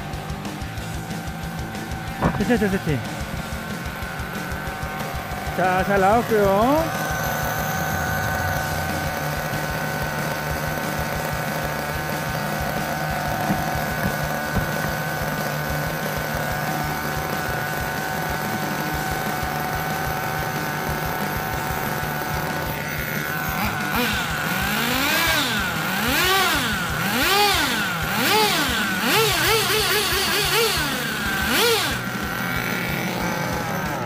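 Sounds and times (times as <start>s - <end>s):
model engine idling and revving: 0.0s - 34.0s.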